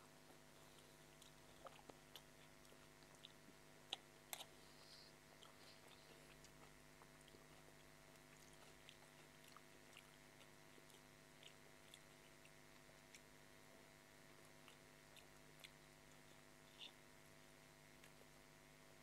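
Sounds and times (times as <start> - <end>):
chewing noodles: 0.3 - 13.4, 14.3 - 17.0.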